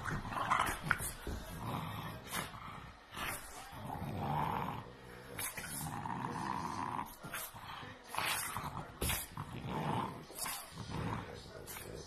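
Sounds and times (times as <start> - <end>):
dogs growling: 0.0 - 12.0.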